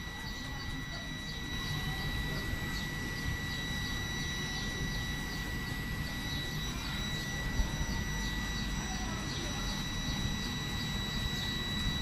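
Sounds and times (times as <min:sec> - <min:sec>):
faint high chirps: 0:00.0 - 0:12.0
high-pitched whine: 0:00.0 - 0:12.0.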